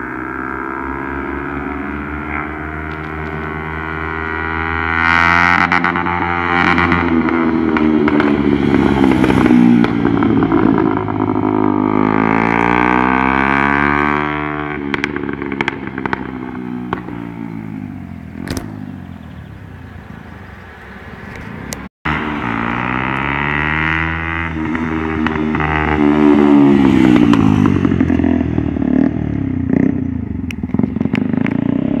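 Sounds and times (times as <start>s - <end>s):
motorcycle revving past: 0.0s - 32.0s.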